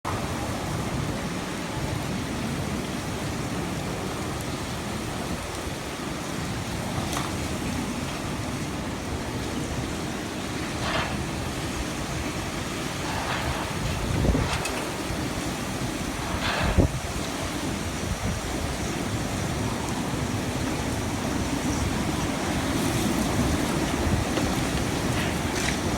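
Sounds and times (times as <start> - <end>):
strong wind and heavy rain: 0.0 - 25.9.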